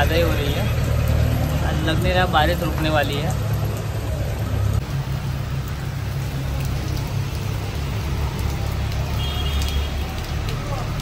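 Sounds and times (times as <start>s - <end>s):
heavy rain on a wet street: 0.0s - 11.0s.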